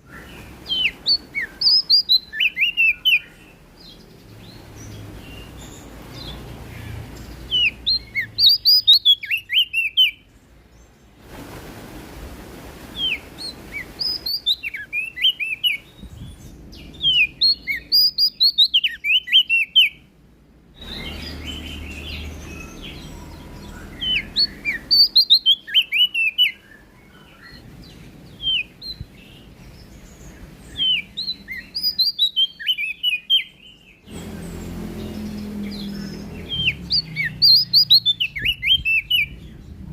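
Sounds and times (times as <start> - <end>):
bird singing high chirps: 0.0 - 11.0, 13.0 - 20.1, 20.8 - 39.8.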